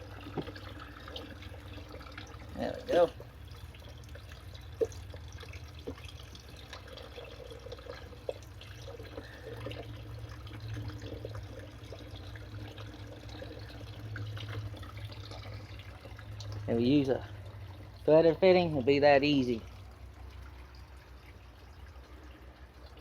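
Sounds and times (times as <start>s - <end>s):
water trickling and dripping: 0.0s - 23.0s.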